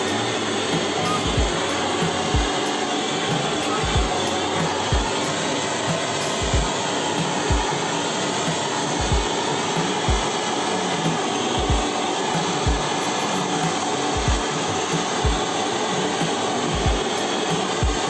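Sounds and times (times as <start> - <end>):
blowtorch hissing flame: 0.0 - 18.0.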